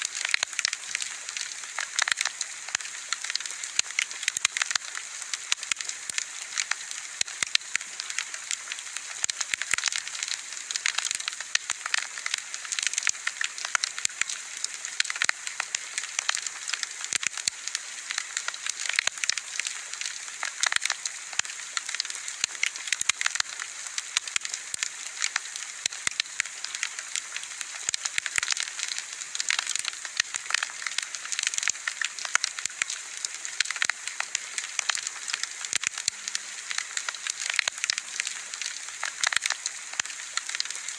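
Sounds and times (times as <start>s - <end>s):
bonfire crackling and popping: 0.0s - 40.9s.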